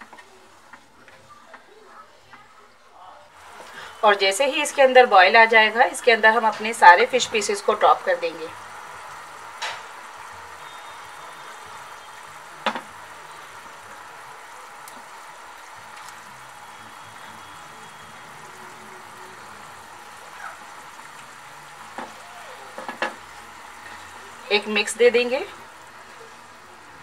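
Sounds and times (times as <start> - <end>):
gravy bubbling in a pan: 3.4 - 27.0.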